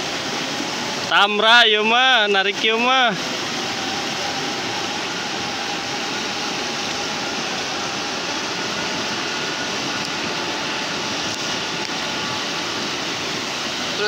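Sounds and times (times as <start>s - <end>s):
river rushing through rapids: 0.0s - 14.0s.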